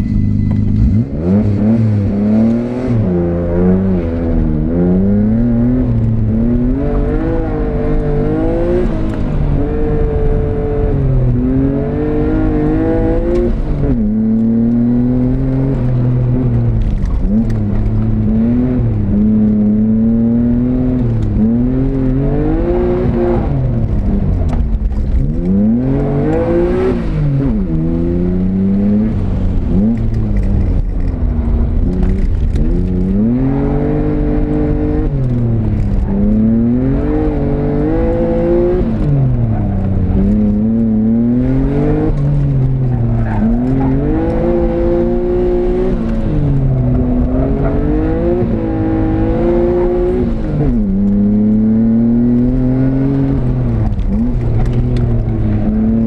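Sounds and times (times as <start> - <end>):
car engine revving from inside: 0.1 - 30.8, 31.5 - 56.0.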